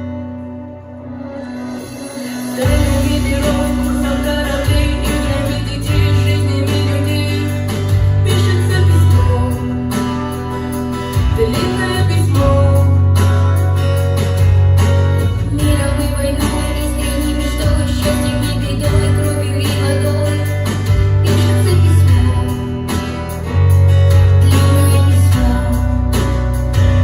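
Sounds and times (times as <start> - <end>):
deep bass notes: 2.6 - 27.0.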